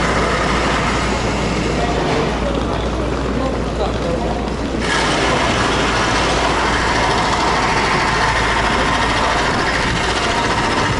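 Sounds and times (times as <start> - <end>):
railway platform rumble and hiss: 0.0 - 10.9
train running nearby: 0.0 - 10.9.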